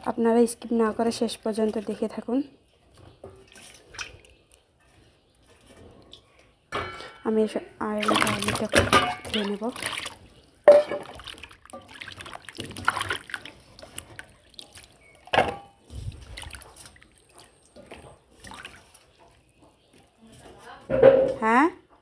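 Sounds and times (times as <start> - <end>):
water sloshing in a bowl: 0.8 - 6.4, 7.8 - 20.8.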